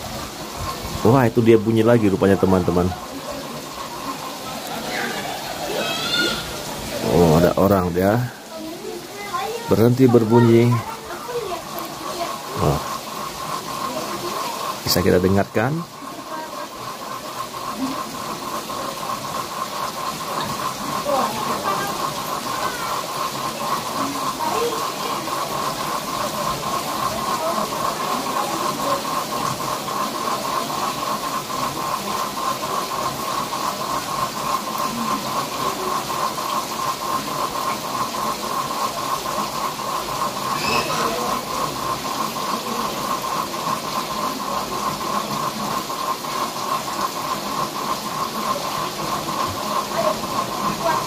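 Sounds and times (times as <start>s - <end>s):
frogs calling in a chorus: 0.0s - 51.0s
steady hiss: 0.0s - 51.0s.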